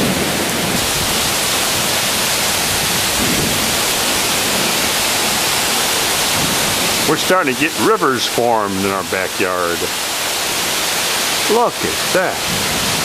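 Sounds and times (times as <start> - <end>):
torrential rain falling: 0.0 - 13.0.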